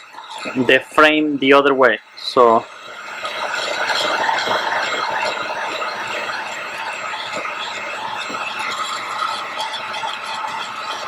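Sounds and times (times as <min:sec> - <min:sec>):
heat gun blowing hot air: 0:00.0 - 0:11.0.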